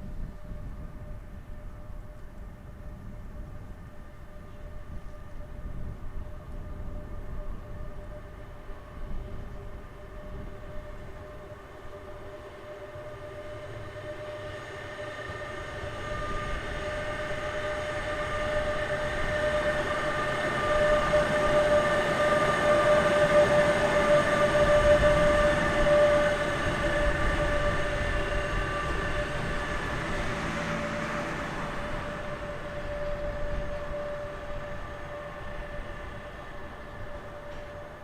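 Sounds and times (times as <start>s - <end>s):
train wheels rumbling: 0.0s - 38.0s.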